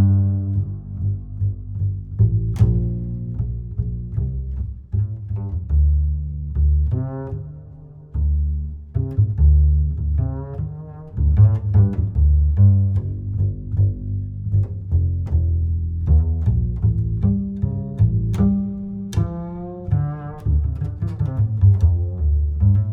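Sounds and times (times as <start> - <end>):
music with low string bass line: 0.0 - 22.9.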